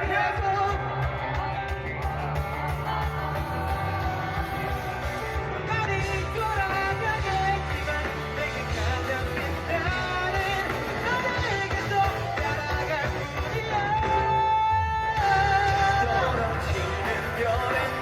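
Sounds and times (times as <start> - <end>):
backing music with strong bass: 0.0 - 18.0
man singing pop-rock song: 0.0 - 18.0.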